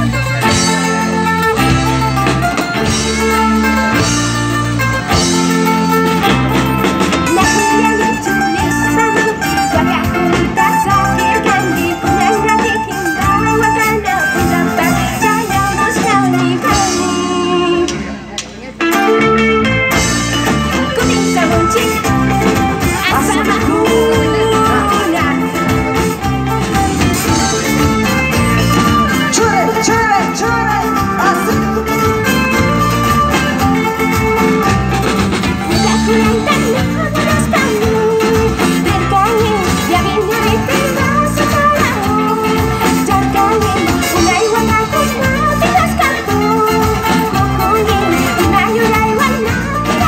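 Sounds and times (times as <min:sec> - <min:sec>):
person singing: 0:00.0 - 0:18.3, 0:18.9 - 0:50.0
drums: 0:00.0 - 0:50.0
guitars: 0:00.0 - 0:50.0.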